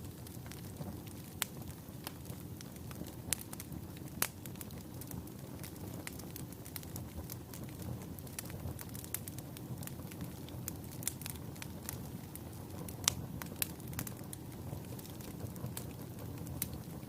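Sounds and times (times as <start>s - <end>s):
fire crackles and pops: 0.0s - 17.0s
low rumble of flame: 0.0s - 17.0s.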